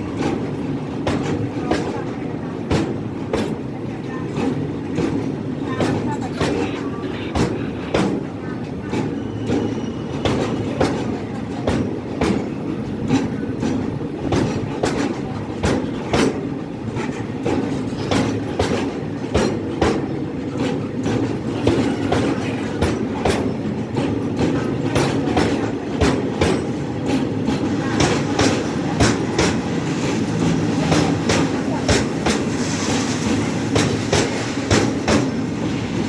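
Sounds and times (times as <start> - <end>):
train wheels rumbling: 0.0 - 36.0
wheels clacking over rail joints: 0.0 - 36.0.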